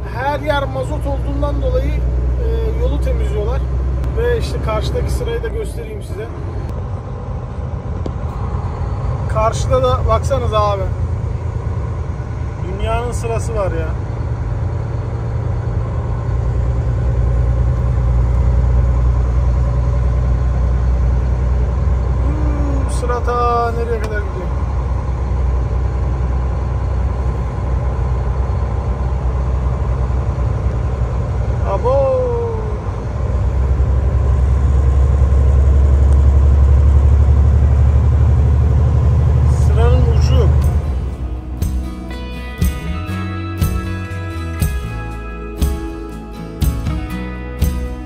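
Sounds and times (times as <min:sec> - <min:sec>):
vehicle engine idling: 0:00.0 - 0:48.0.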